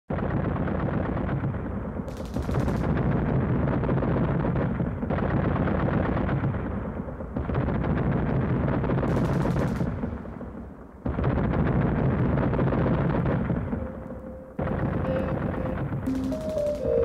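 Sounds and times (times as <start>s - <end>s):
rapid machine gunfire: 0.1s - 13.8s, 14.6s - 17.0s
sharp crackling: 0.1s - 17.0s.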